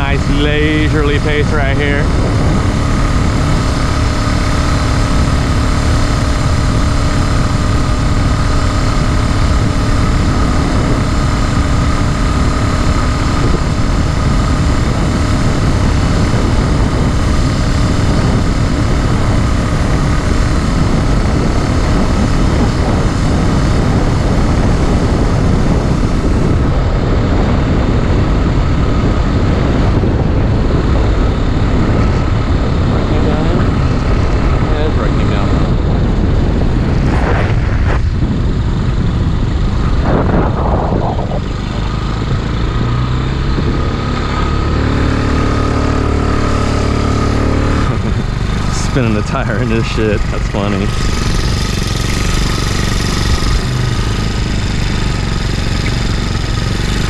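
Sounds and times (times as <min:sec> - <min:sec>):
small engine running steadily: 0:00.0 - 0:57.0.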